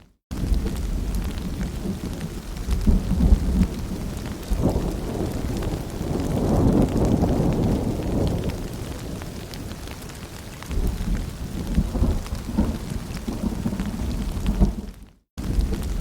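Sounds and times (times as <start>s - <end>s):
low rumble of thunder: 0.3s - 16.0s
rain falling: 0.3s - 16.0s.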